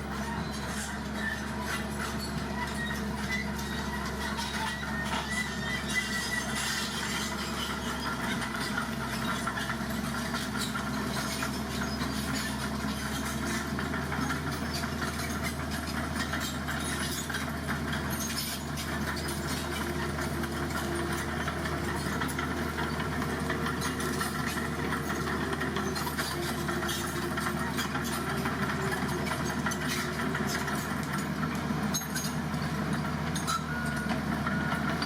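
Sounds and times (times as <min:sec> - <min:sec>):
heavy truck engine running: 0:00.0 - 0:35.0.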